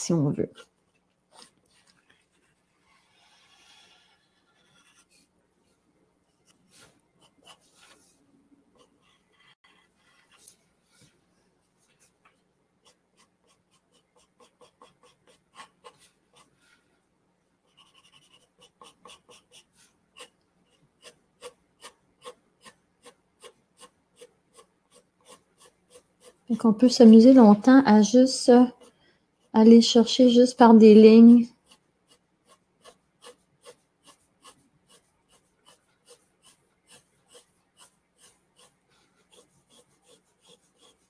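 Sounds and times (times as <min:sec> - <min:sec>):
pencil scratching on paper: 0:01.3 - 0:05.3, 0:06.3 - 0:11.2, 0:11.8 - 0:17.0, 0:17.6 - 0:41.0.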